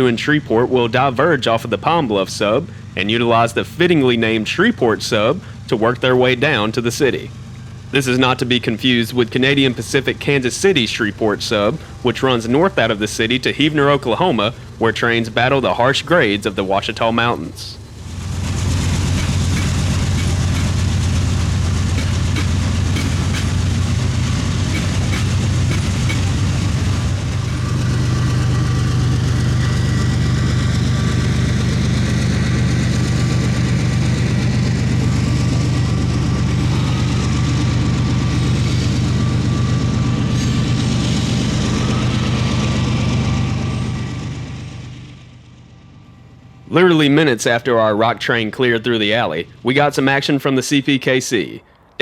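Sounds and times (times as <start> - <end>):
train wheels clicking over rail joints: 0.0 - 45.0
diesel locomotive engines droning: 0.0 - 52.0.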